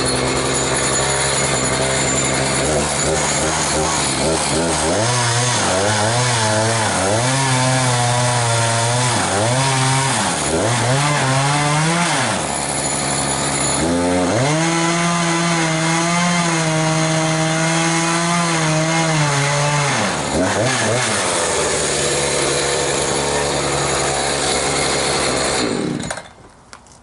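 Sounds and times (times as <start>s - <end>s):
chainsaw cutting log: 0.0s - 26.4s.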